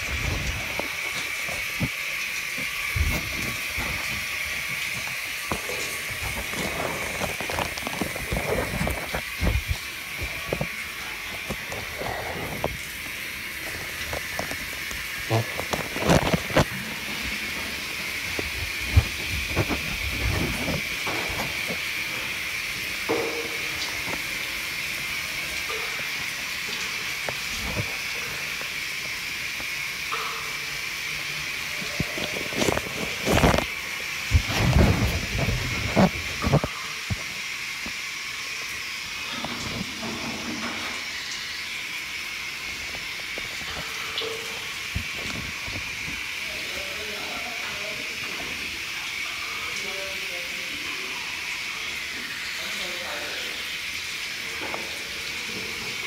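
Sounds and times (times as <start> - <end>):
shower water spraying: 0.0 - 56.0.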